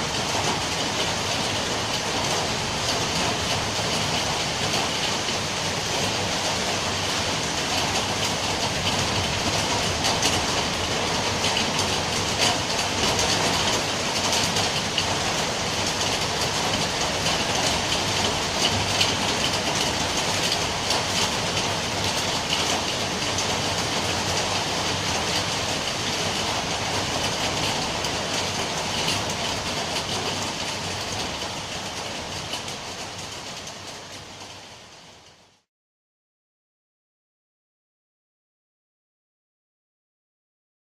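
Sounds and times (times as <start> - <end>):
steady rain falling: 0.0 - 35.7.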